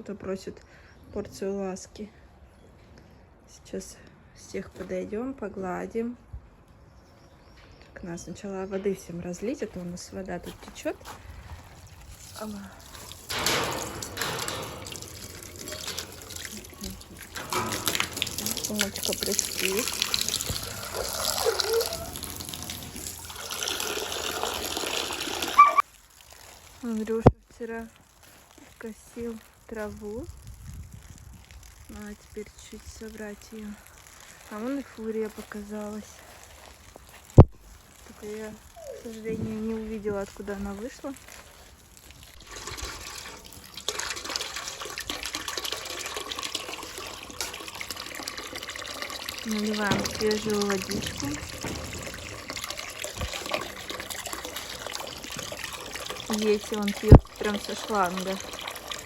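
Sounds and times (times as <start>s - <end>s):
water running from hose: 9.4s - 59.0s.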